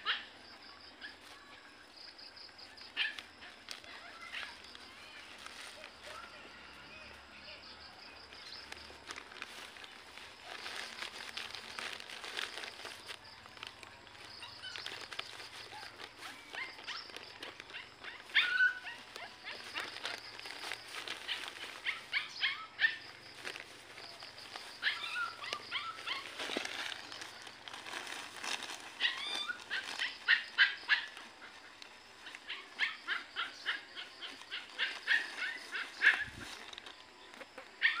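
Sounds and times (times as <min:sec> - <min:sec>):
plastic bag crinkling: 0:02.7 - 0:06.3, 0:08.2 - 0:33.0, 0:34.2 - 0:37.1.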